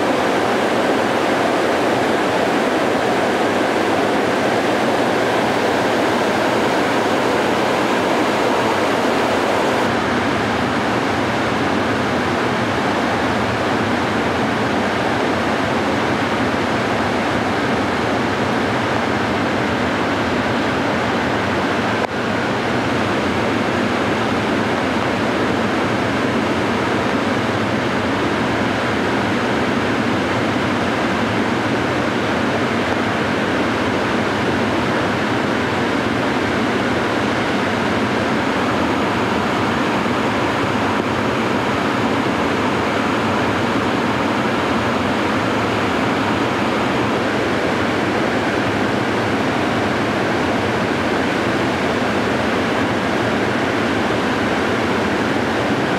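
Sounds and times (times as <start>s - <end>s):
water rushing over dam spillway: 0.0s - 55.9s.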